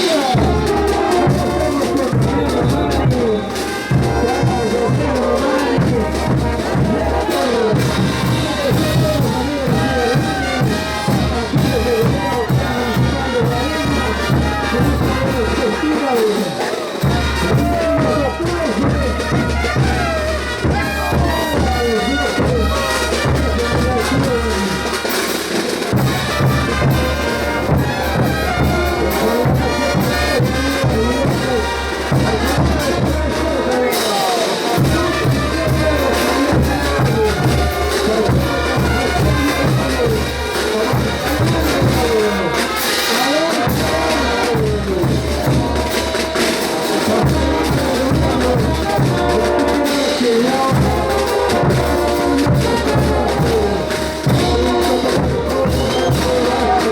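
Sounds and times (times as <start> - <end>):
brass band playing dance tune: 0.0 - 56.9
drums keeping steady beat: 0.0 - 56.9.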